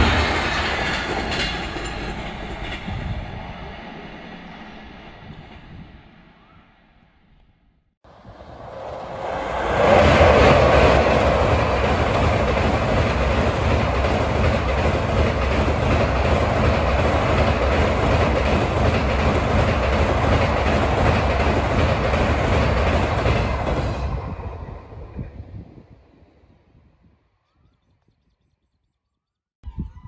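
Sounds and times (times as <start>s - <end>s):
train crossing steel bridge: 0.0s - 6.6s, 8.1s - 26.6s.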